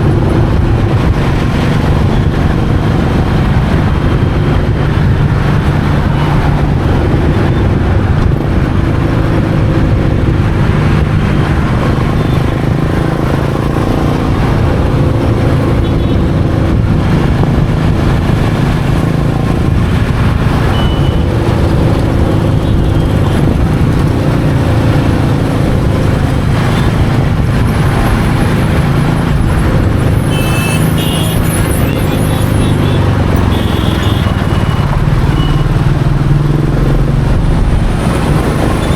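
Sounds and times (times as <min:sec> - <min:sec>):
motorcycle engine running: 0:00.0 - 0:38.9
road and traffic noise: 0:00.0 - 0:38.9.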